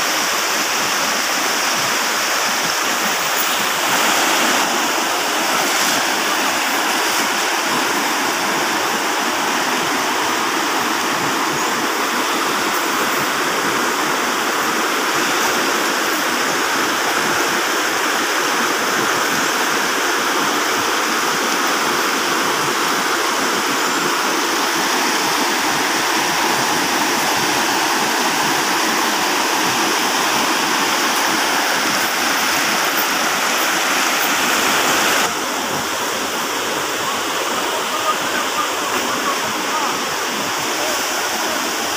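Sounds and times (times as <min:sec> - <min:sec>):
river rushing over rocks: 0:00.0 - 0:41.9.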